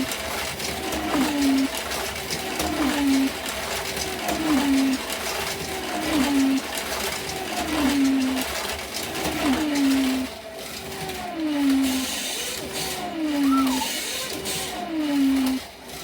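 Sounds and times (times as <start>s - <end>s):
cars clicking on track: 0.0s - 16.0s
slot car motors whining: 0.0s - 16.0s.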